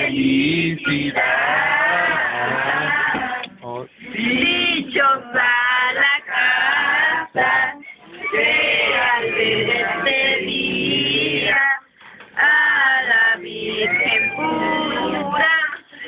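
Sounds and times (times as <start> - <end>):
group singing a carol: 0.0 - 16.0.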